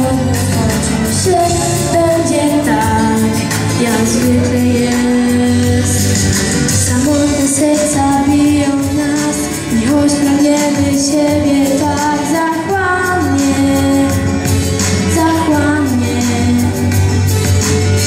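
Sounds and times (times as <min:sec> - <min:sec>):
boy singing into a microphone: 0:00.0 - 0:17.0
pop backing track: 0:00.0 - 0:18.0.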